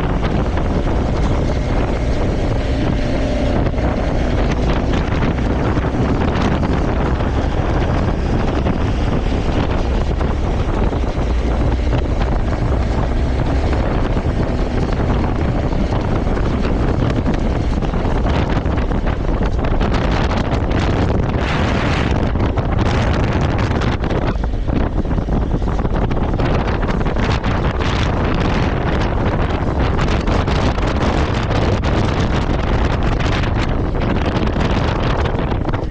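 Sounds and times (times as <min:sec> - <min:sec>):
motorcycle engine running: 0:00.0 - 0:35.9
wind rushing over microphone: 0:00.0 - 0:35.9.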